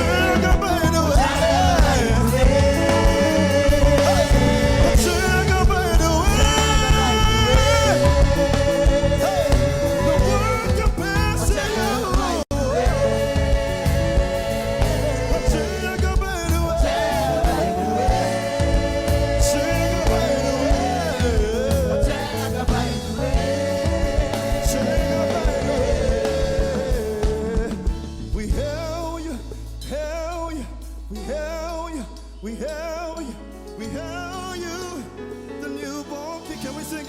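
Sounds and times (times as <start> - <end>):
gospel singing: 0.0 - 37.0
instrumental accompaniment: 0.0 - 37.0.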